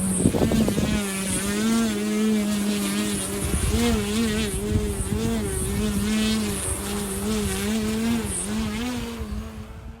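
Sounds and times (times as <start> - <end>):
model plane motor whining: 0.0 - 10.0.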